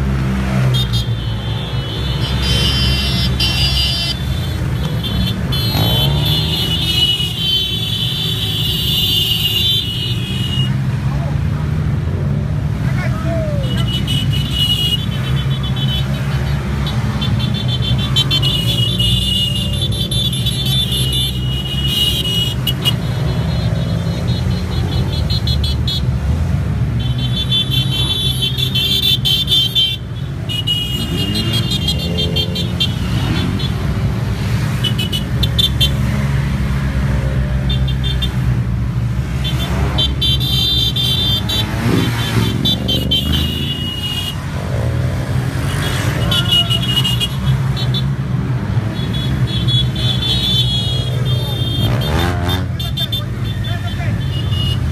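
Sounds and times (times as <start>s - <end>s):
horns honking: 0.0s - 11.1s, 12.2s - 54.9s
scooter engines droning: 0.0s - 54.9s.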